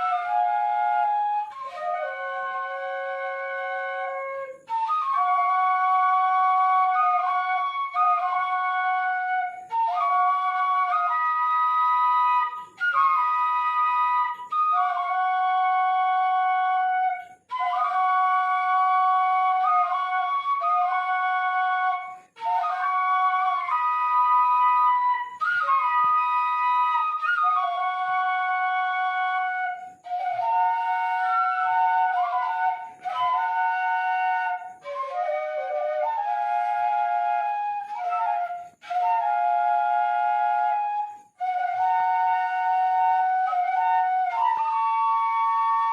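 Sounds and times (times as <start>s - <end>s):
bamboo flutes playing: 0.0s - 45.9s.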